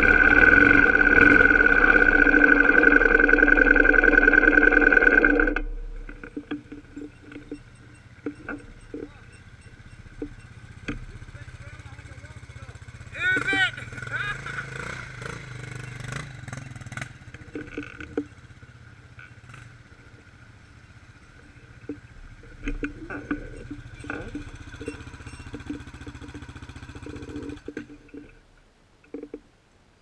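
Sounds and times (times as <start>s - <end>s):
quad engine idling: 0.0s - 28.5s.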